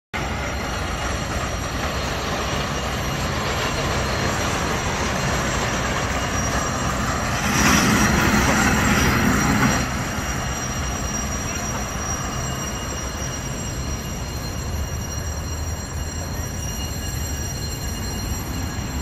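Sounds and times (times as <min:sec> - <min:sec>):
rail car wheels rumbling on track: 0:00.2 - 0:19.0.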